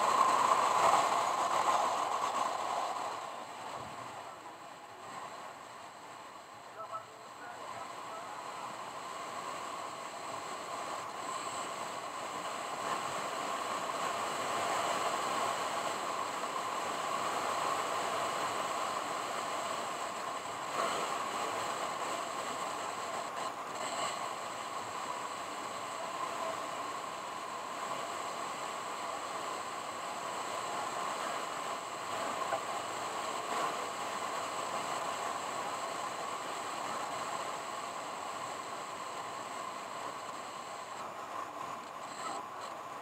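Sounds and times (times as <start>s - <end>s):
car road and wind noise: 0.0s - 43.0s.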